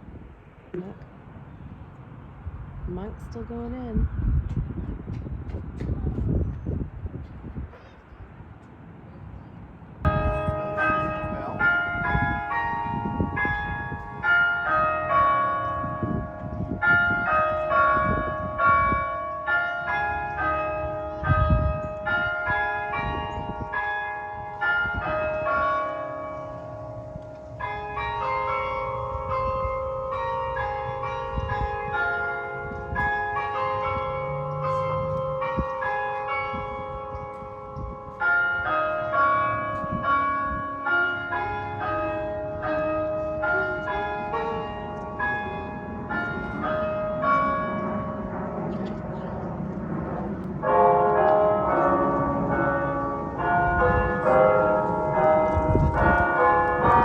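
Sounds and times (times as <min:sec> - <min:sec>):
church bells ringing: 0:10.0 - 0:57.0.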